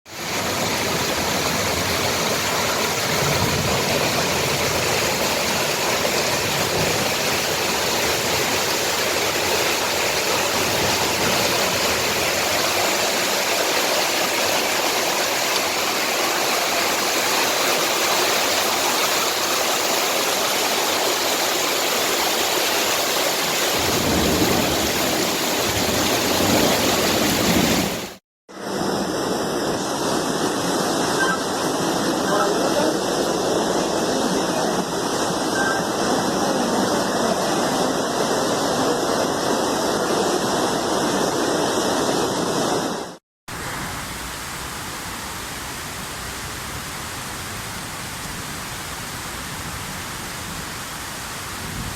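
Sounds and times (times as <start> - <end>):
heavy rain pouring: 0.1 - 51.9.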